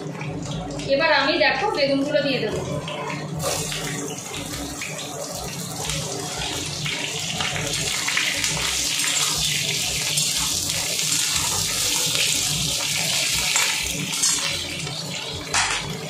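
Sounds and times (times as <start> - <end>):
vegetables frying in hot oil: 0.0 - 16.0.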